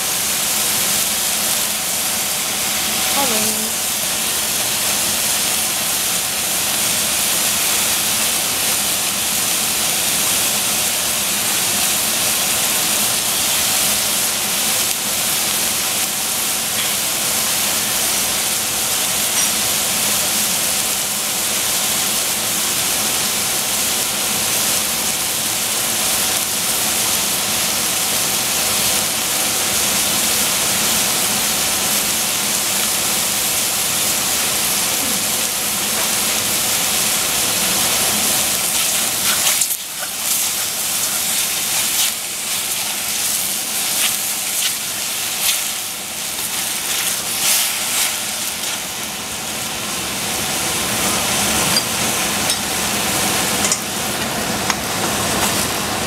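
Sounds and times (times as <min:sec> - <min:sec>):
vegetables sizzling in a saucepan: 0:00.0 - 0:56.0.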